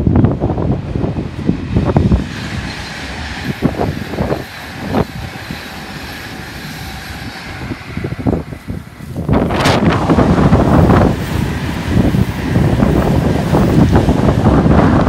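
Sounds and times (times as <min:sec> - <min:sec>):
train rushing past: 0:00.0 - 0:15.0
wind buffeting microphone: 0:00.0 - 0:15.0.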